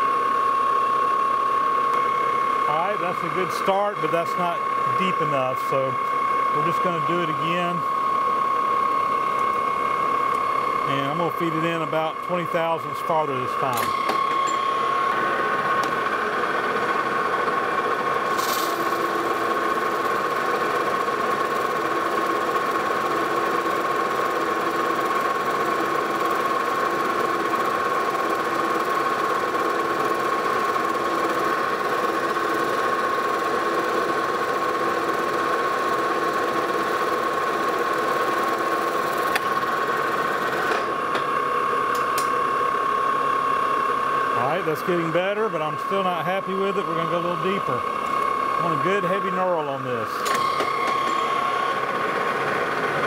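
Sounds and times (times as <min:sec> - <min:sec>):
metal lathe whining: 0:00.0 - 0:53.0.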